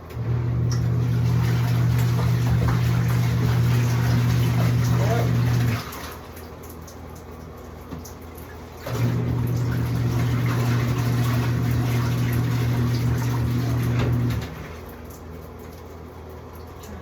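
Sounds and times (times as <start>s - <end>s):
washing machine motor humming: 0.0s - 17.0s
water sloshing: 0.6s - 17.0s.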